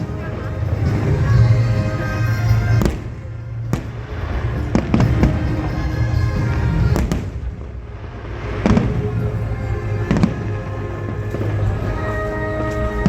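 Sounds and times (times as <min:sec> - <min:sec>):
background music: 0:00.0 - 0:13.0
fireworks bangs: 0:00.0 - 0:13.0.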